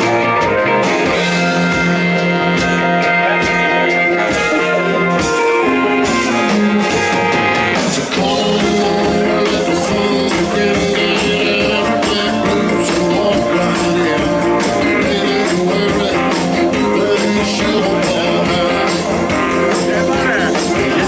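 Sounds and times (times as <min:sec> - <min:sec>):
bass guitar: 0:00.0 - 0:21.0
drums at a steady beat: 0:00.0 - 0:21.0
electric guitar: 0:00.0 - 0:21.0.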